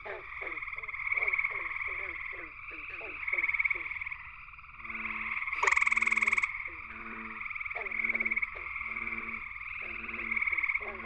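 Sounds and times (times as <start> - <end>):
treefrog chorus trilling: 0.0 - 11.0.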